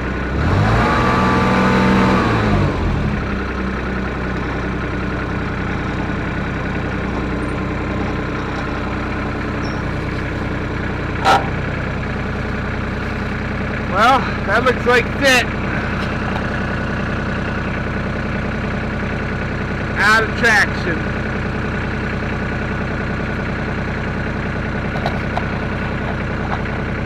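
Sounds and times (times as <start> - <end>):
utility vehicle engine revving: 0.0 - 27.0.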